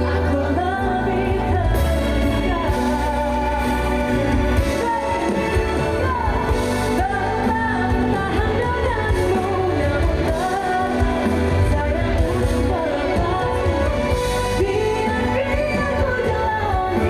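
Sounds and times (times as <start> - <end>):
live band with heavy bass: 0.0 - 17.0
woman singing: 0.0 - 17.0.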